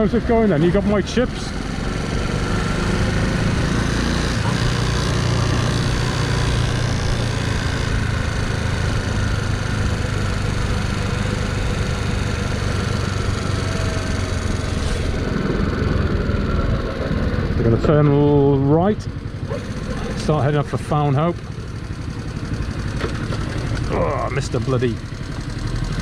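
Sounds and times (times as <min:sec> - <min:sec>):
motorcycle engine running: 0:00.0 - 0:26.0
road noise: 0:00.0 - 0:26.0.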